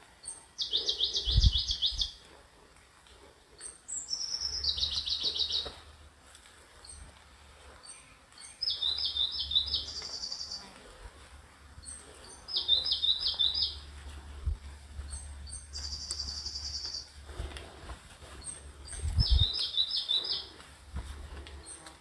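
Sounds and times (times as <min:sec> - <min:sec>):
songbird singing: 0:00.2 - 0:02.3, 0:03.5 - 0:06.0, 0:06.7 - 0:10.8, 0:11.6 - 0:17.6, 0:18.2 - 0:22.0.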